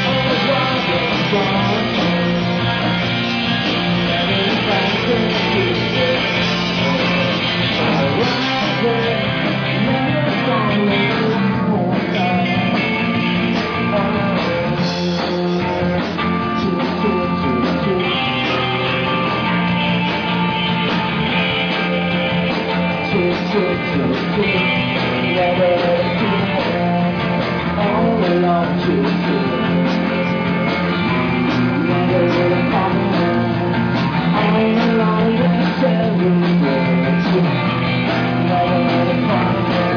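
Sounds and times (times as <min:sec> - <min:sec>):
electric guitar: 0:00.0 - 0:39.9
live rock band playing: 0:00.0 - 0:39.9
steady bass: 0:00.0 - 0:39.9.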